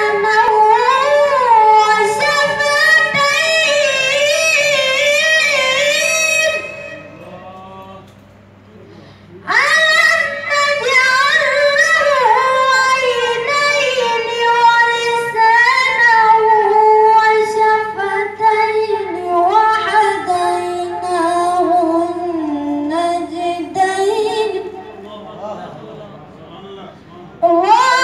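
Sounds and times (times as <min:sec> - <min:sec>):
boy chanting into a microphone: 0:00.0 - 0:08.0, 0:09.3 - 0:28.0.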